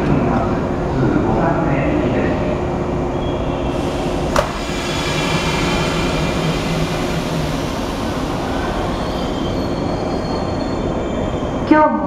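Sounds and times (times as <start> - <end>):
electric train running hum: 0.0 - 12.0.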